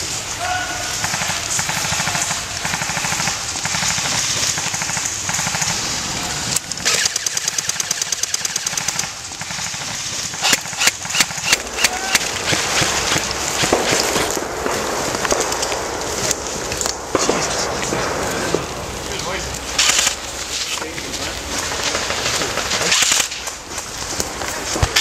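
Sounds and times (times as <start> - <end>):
airsoft rifles firing: 0.0 - 20.4, 21.6 - 25.0.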